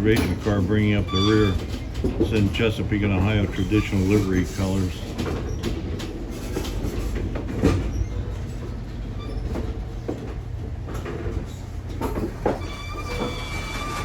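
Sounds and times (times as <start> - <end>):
train cars rumbling on track: 0.0 - 14.0.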